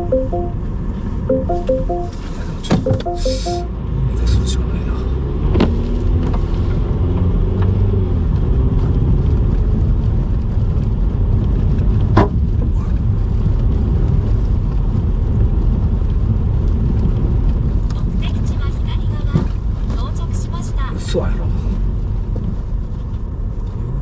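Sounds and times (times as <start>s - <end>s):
car engine and road rumble: 2.0s - 24.0s.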